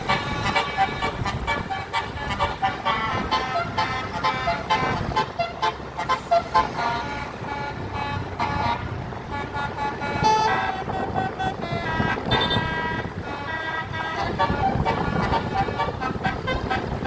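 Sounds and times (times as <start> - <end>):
musical air horn playing notes: 0.0 - 17.0.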